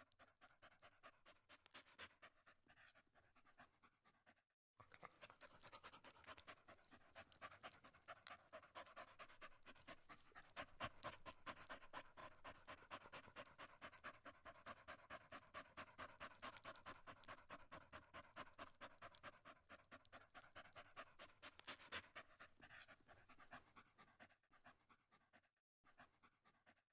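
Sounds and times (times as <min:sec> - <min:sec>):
dog panting: 0:00.0 - 0:26.9.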